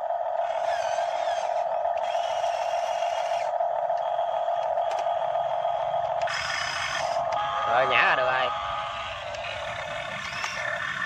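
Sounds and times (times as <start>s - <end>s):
hydraulic pump whine: 0.0s - 11.0s.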